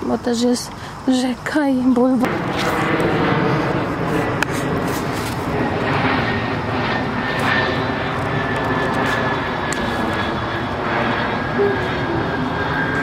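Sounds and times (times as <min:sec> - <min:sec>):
airplane flying overhead: 0:00.0 - 0:13.0.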